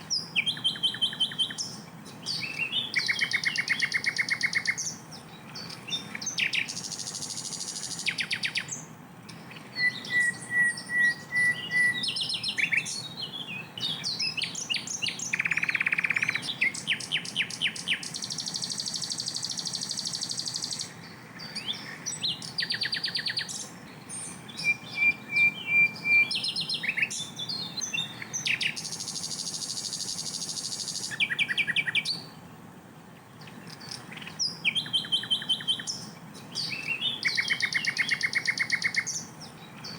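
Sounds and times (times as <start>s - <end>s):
flycatcher singing: 0.0s - 32.4s, 33.4s - 39.9s.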